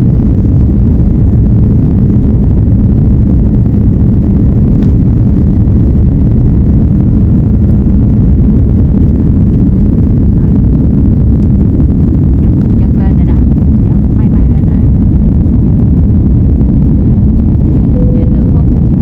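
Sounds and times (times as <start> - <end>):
plane engines rumbling: 0.0 - 19.0.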